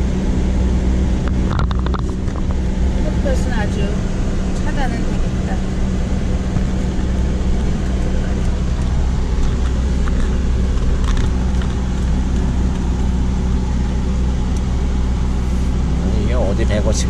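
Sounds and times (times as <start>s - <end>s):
car engine drone from inside: 0.0s - 17.0s.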